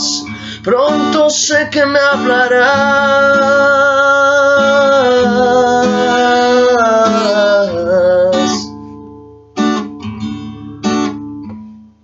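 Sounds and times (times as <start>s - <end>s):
guitar accompaniment: 0.0s - 12.0s.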